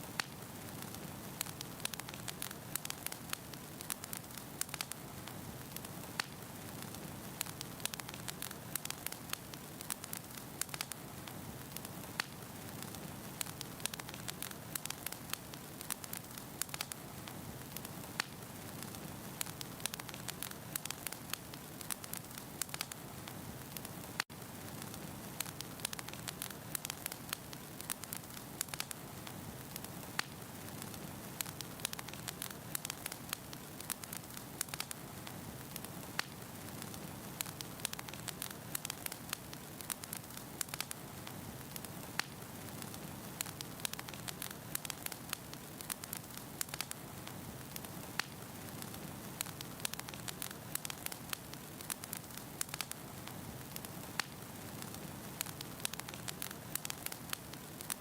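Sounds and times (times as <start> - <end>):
firewood crackling and popping: 0.0 - 58.0
rumble of flames: 0.0 - 58.0.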